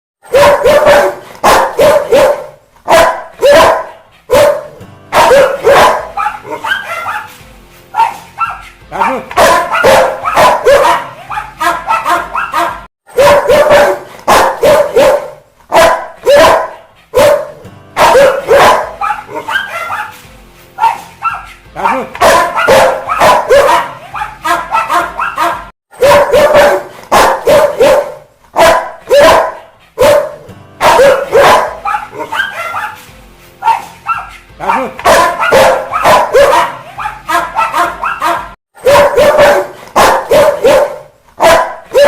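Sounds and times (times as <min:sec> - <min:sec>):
dog barking angrily: 0:00.2 - 0:07.3, 0:08.0 - 0:20.2, 0:20.8 - 0:33.0, 0:33.6 - 0:42.0.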